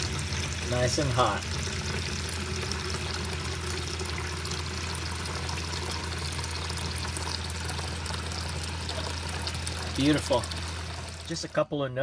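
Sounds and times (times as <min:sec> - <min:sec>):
water running from faucet into tub: 0:00.0 - 0:11.6.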